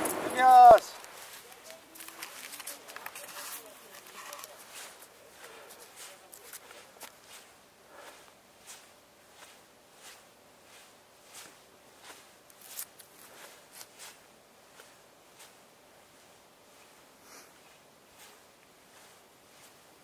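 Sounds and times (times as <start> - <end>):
footsteps on dry grass: 0.0 - 20.0.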